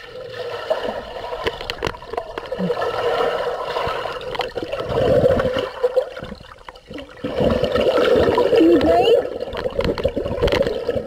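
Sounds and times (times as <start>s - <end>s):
underwater gurgling and swishing: 0.0s - 11.0s.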